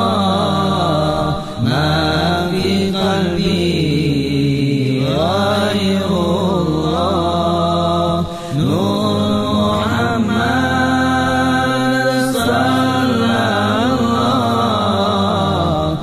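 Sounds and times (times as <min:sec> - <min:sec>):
person chanting: 0:00.0 - 0:16.0
steady low drone: 0:00.0 - 0:16.0.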